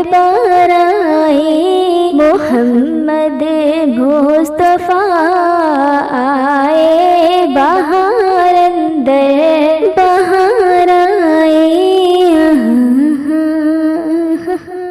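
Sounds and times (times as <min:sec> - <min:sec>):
person singing long ornamented notes: 0:00.0 - 0:14.9.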